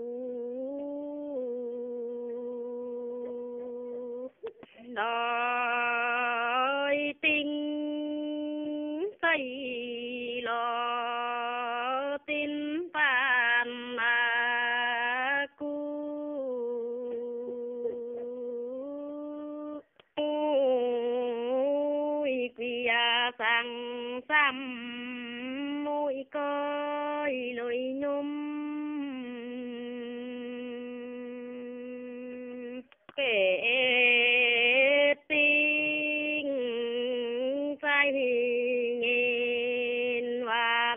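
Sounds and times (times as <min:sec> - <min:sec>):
elderly woman singing unaccompanied: 0:00.0 - 0:40.9.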